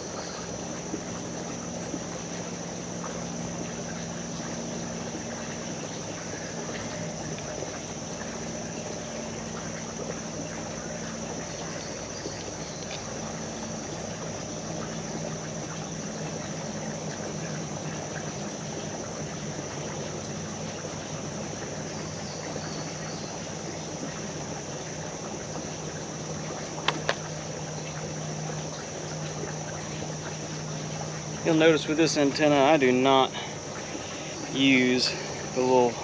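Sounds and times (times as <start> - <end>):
creek water running: 0.0 - 36.0.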